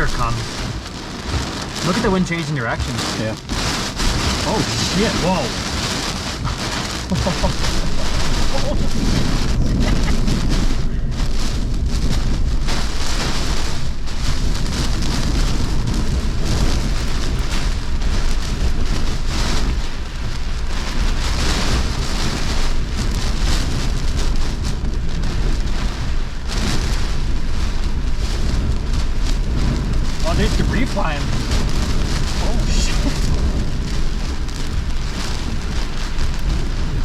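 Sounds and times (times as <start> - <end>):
heavy rain: 0.0 - 37.0
wind buffeting microphone: 0.0 - 37.0.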